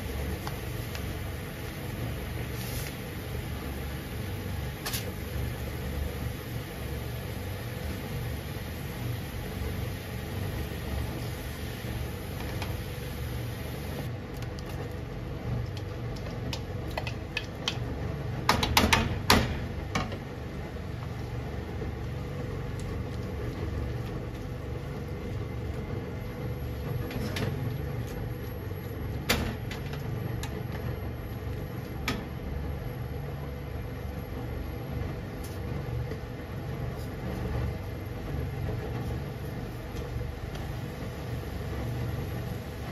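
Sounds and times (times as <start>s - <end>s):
low hum from stove: 0.0s - 42.9s.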